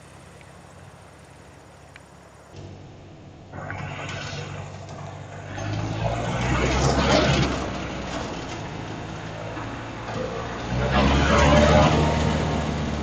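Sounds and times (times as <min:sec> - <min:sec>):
light aircraft engine running: 0:00.0 - 0:13.0.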